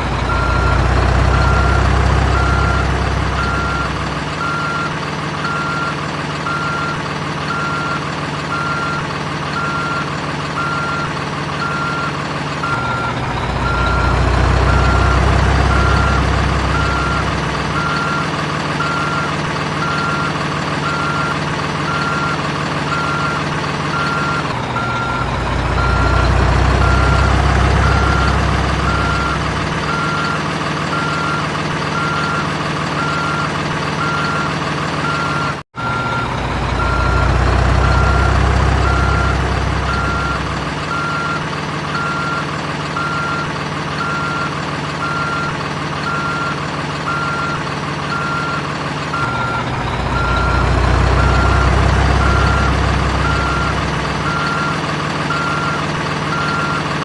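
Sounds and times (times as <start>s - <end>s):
machine engine rumble: 0.0s - 57.0s
reversing beep: 0.2s - 57.0s.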